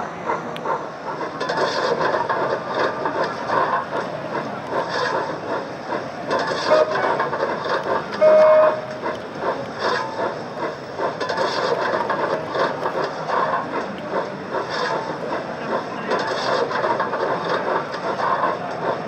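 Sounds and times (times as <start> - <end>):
model train steam sounds from speaker: 0.0 - 19.0.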